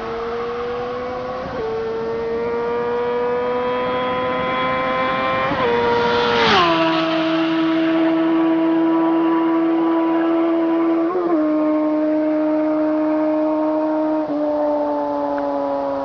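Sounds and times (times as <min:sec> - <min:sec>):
motorcycle engine revving past: 0:00.0 - 0:16.0.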